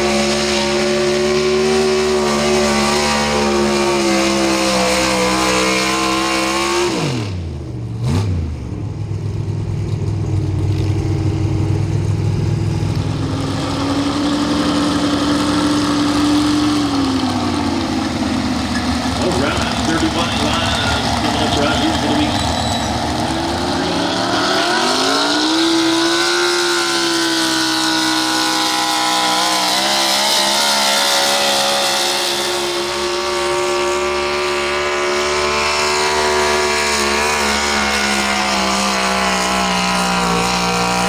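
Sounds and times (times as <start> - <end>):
truck engine at high revs: 0.0 - 41.0.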